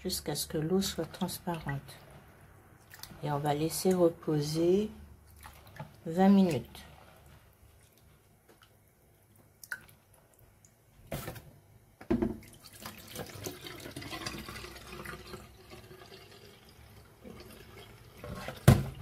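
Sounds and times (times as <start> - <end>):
water sloshing in plastic basin: 0.6 - 16.4, 17.2 - 19.0.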